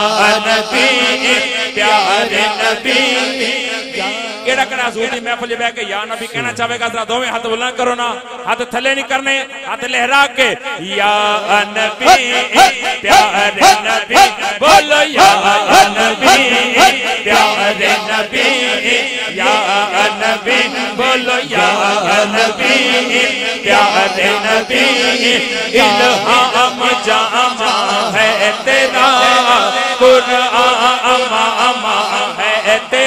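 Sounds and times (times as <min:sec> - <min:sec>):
men chanting: 0:00.0 - 0:05.3, 0:10.8 - 0:33.0.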